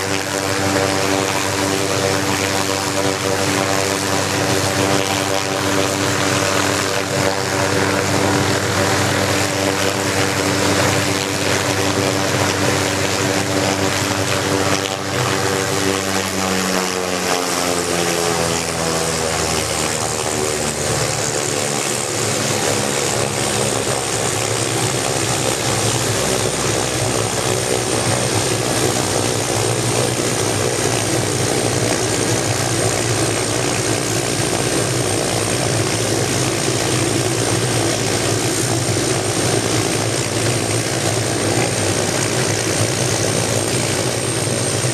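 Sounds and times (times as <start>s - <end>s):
helicopter engine and rotor: 0.0s - 44.9s
high turbine whine: 0.0s - 44.9s.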